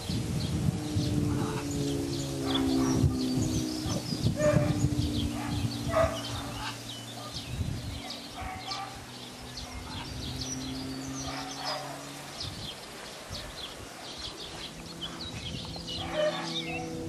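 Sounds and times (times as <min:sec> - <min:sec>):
birds chirping: 0:00.0 - 0:17.0
steady low hum: 0:00.0 - 0:17.0
wind buffeting microphone: 0:00.0 - 0:17.0.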